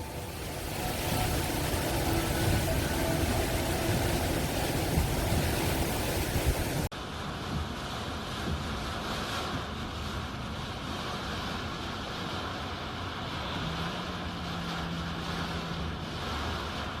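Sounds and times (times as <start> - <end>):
faint low engine hum: 0.0 - 17.0.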